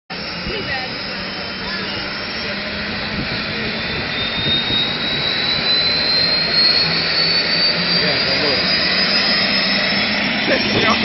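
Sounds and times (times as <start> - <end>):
helicopter turbine engine spooling up: 0.1 - 11.0.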